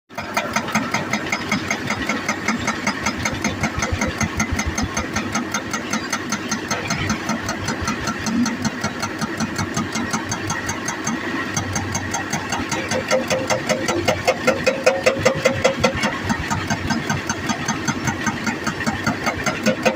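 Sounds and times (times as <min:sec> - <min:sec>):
excavator diesel engine running: 0:00.1 - 0:19.9
hydraulic breaker hammering rock: 0:00.1 - 0:19.9.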